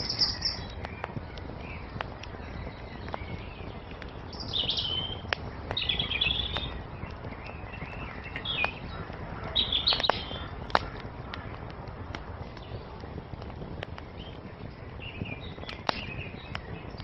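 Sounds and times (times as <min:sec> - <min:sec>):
fire pops: 0:00.0 - 0:17.0
low rush of flames: 0:00.0 - 0:17.0
songbirds chirping: 0:00.0 - 0:17.0
wood fire crackling: 0:00.0 - 0:17.0.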